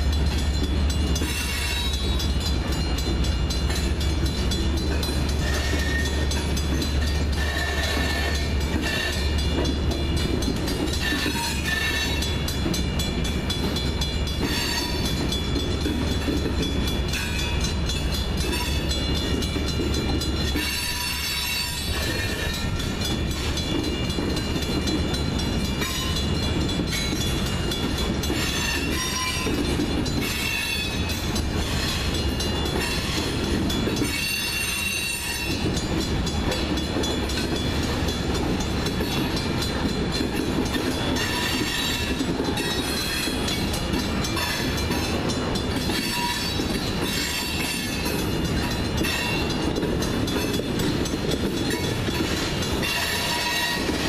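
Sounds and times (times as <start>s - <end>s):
rail-joint clicks: 0.0s - 54.0s
train wheels rumbling on rails: 0.0s - 54.0s.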